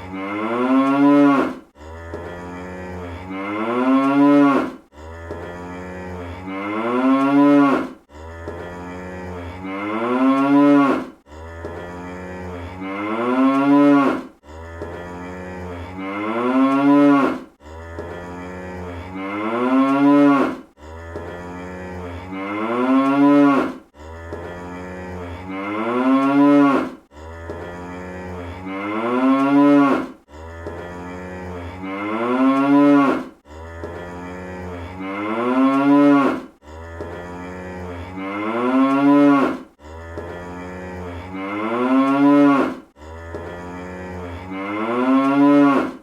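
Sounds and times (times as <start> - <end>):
cartoon cow mooing: 0.0 - 46.0.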